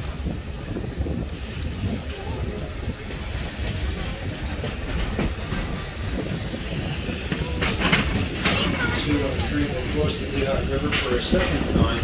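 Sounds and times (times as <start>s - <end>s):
train rumble: 0.0s - 12.0s
wheels clacking over rails: 2.4s - 12.0s.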